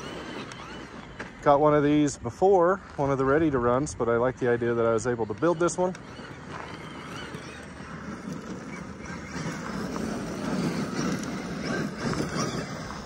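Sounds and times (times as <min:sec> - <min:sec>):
toy truck tyres churning gravel: 0:00.0 - 0:13.0.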